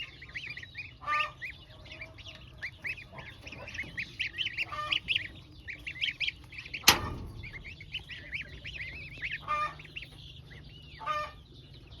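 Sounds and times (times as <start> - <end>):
low honking calls: 0.0 - 11.8
poultry peeping calls: 0.0 - 12.0.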